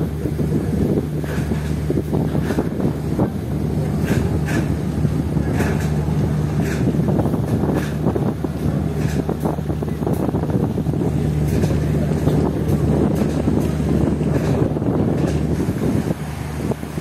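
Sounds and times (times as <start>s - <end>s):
ship engine humming: 0.0s - 17.0s
wind buffeting microphone: 0.0s - 17.0s.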